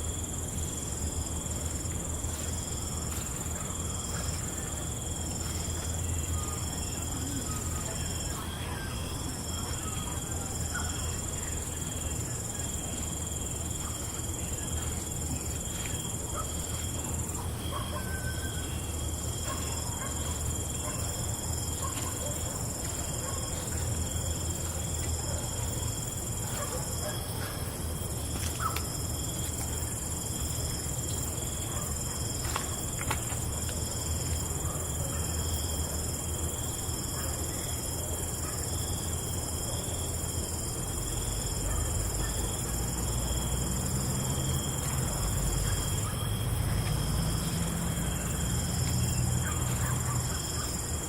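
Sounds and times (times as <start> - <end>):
crickets and night insects chirping: 0.0 - 51.0.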